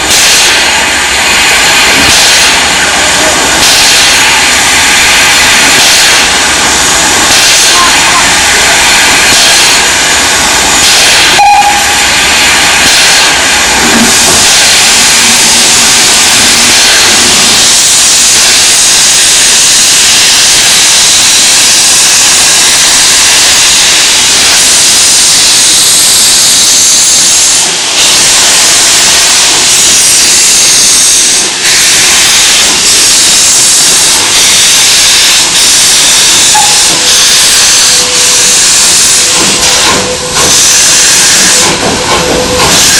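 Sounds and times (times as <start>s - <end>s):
steam hissing from locomotive: 0.0s - 42.9s.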